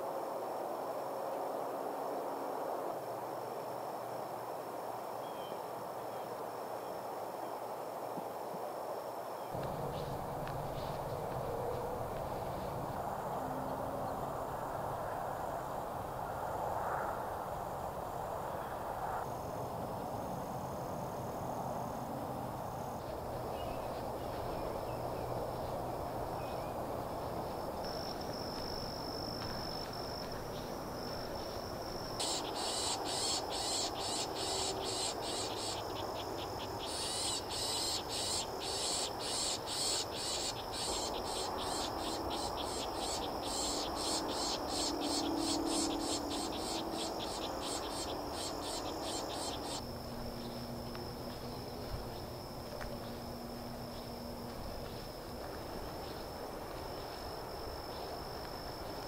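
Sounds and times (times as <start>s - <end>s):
low background noise: 0.0s - 59.0s
insects high buzz: 9.3s - 59.0s
insect pulsing chirp: 9.4s - 59.0s.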